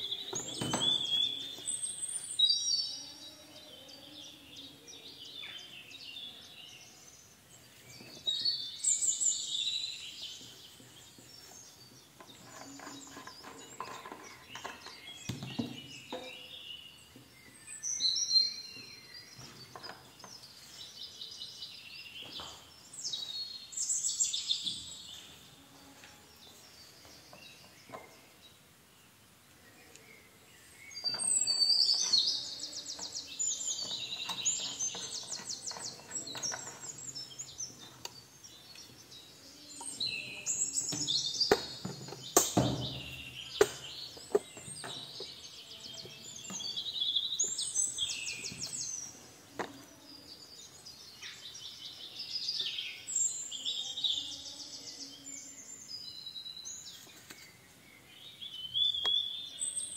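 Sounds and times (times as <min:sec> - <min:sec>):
bird chirps and trills: 0:00.0 - 0:20.8, 0:29.7 - 0:59.9.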